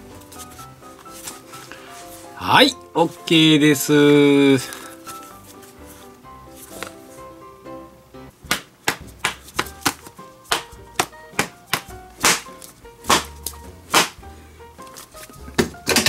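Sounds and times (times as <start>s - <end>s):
background music with held tones: 0.0s - 16.0s.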